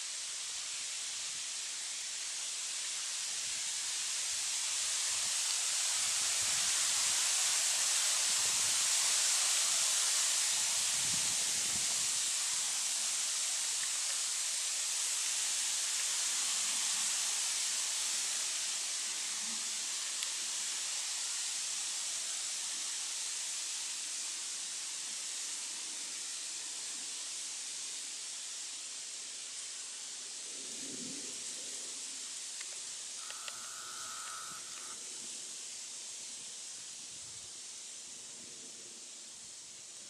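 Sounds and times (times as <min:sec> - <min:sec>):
high-pitched hiss: 0:00.0 - 0:40.0.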